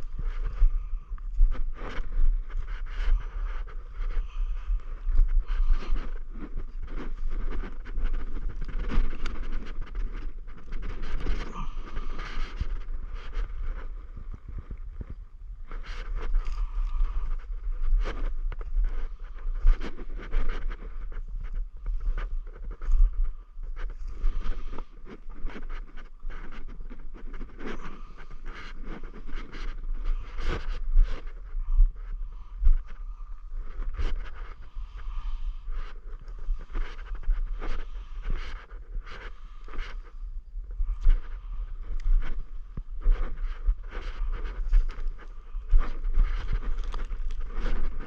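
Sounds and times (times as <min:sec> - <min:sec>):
footsteps crunching on stubble: 0:00.0 - 0:48.0
wind buffeting microphone: 0:00.0 - 0:48.0.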